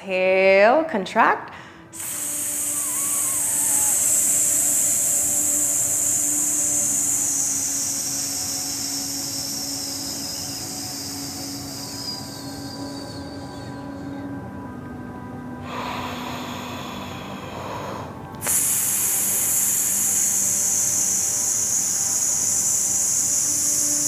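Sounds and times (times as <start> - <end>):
woman hissing exhale: 1.6 - 13.8, 15.6 - 24.0.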